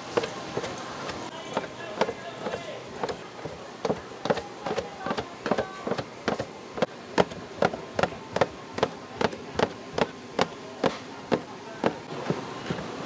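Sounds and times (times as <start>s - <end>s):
blade knocking on metal tray: 1.4s - 12.1s.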